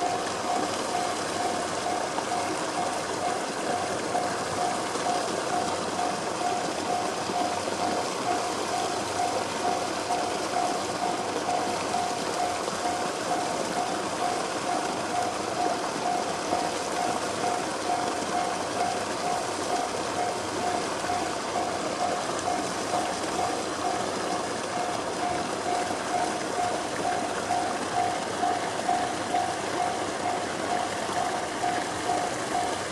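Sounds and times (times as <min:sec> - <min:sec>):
level-crossing alarm bell: 0:00.0 - 0:32.9.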